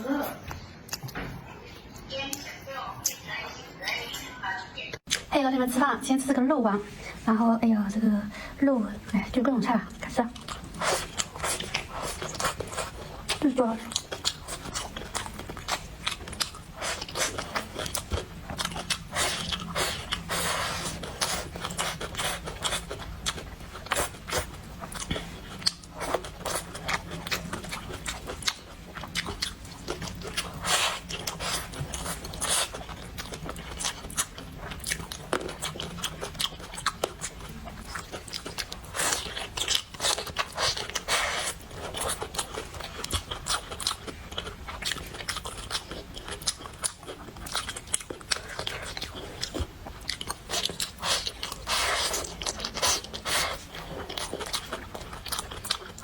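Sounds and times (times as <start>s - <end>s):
person chewing food: 9.9s - 56.0s.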